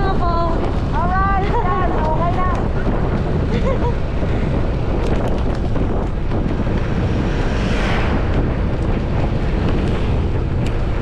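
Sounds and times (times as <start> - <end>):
road and engine noise: 0.0 - 11.0
wind buffeting microphone: 0.0 - 11.0.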